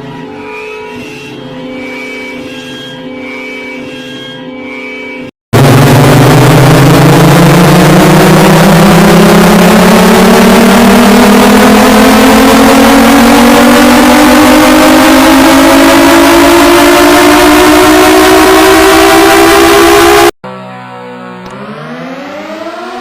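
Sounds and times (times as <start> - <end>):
distorted electronic alarm drone: 0.0 - 23.0.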